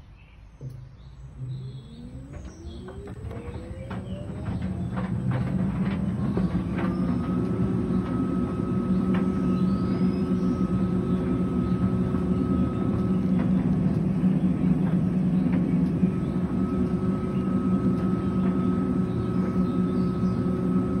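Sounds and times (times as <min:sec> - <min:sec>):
tumble dryer humming and whining: 0:00.6 - 0:21.0
soft knocks of tumbling laundry: 0:02.2 - 0:21.0.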